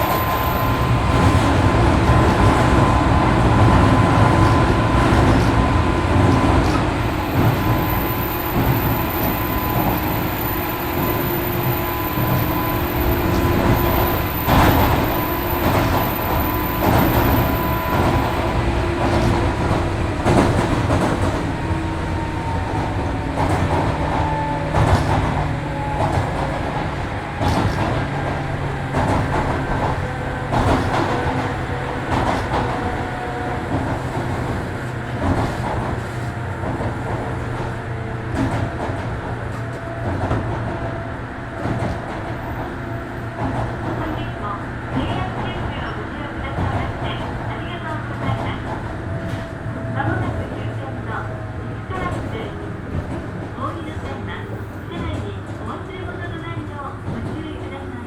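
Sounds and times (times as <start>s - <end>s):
rail-joint clicks: 0.0s - 41.0s, 41.6s - 58.0s
train wheel and motor rumble: 0.0s - 58.0s.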